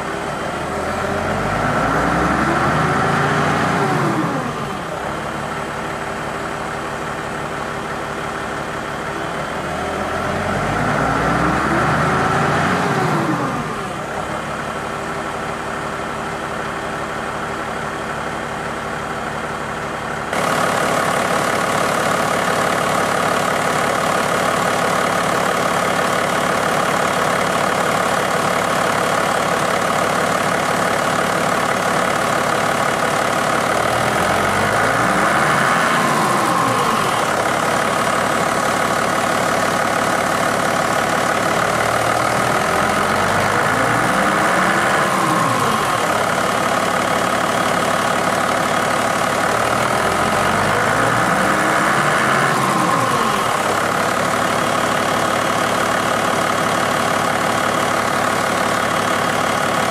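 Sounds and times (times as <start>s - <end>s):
forklift diesel engine idling and revving: 0.0s - 59.9s.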